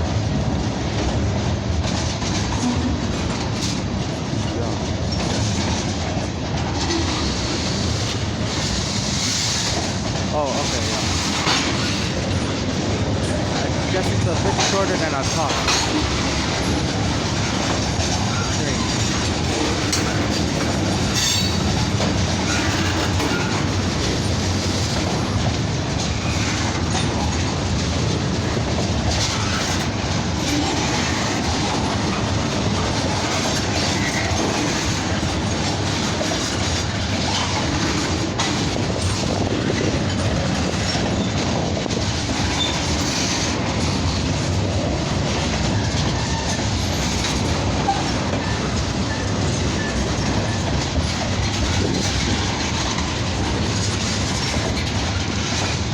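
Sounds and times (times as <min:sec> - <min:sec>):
steel wheels rumbling on rail: 0:00.0 - 0:55.9
wheels clacking over rail joints: 0:00.0 - 0:55.9.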